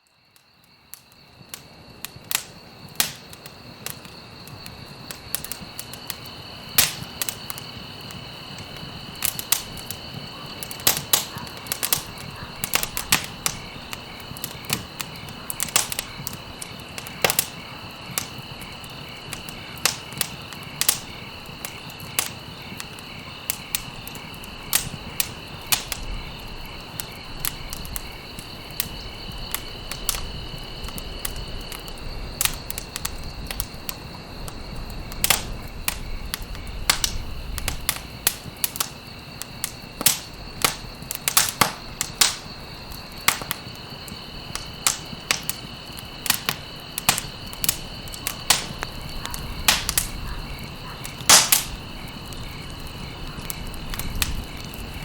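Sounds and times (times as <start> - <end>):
campfire crackling and popping: 0.0 - 55.0
crickets trilling: 0.0 - 55.0.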